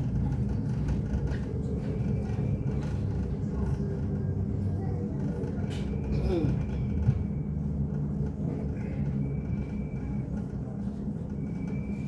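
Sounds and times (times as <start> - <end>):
low rumble of train wheels: 0.0 - 12.0.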